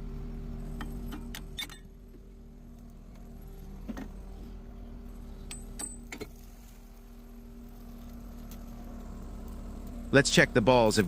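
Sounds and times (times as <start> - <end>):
pump truck humming: 0.0 - 11.0.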